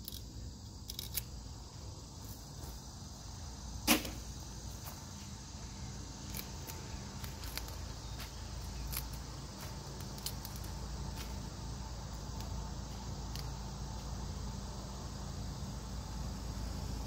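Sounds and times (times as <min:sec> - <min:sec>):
high insect chirring: 0:00.0 - 0:17.0.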